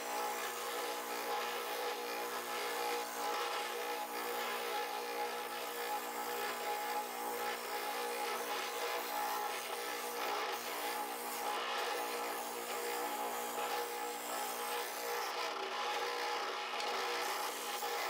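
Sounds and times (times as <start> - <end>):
spindle sander sanding wood: 0.0 - 15.4.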